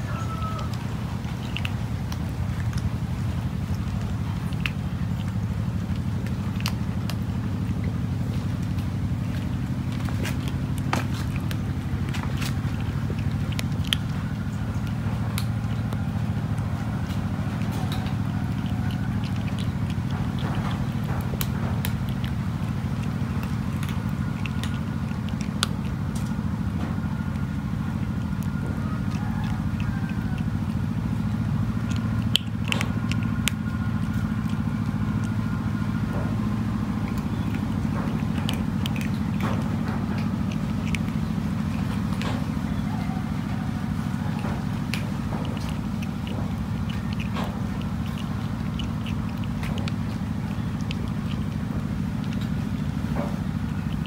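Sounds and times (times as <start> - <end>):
cat crunching dry kibble: 0.0 - 54.0
steady low hum: 0.0 - 54.0.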